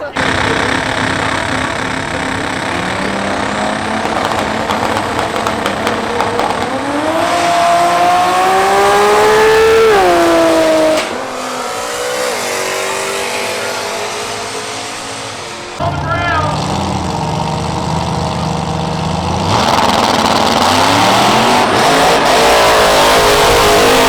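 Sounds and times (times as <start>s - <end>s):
race car engines accelerating: 0.0s - 24.0s.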